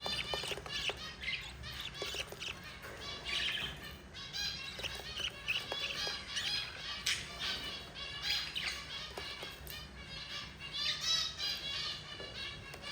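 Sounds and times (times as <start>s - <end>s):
budgerigars chirping: 0.0s - 12.9s.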